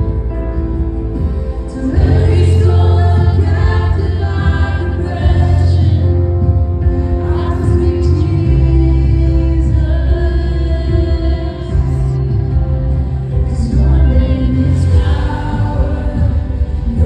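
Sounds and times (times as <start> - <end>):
electric guitar: 0.0 - 17.0
keyboard: 0.0 - 17.0
women singing: 1.7 - 17.0.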